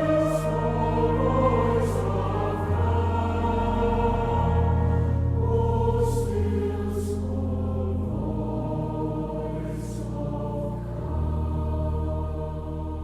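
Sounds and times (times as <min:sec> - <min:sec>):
choir singing a hymn: 0:00.0 - 0:13.0
low sustained accompaniment: 0:00.0 - 0:13.0.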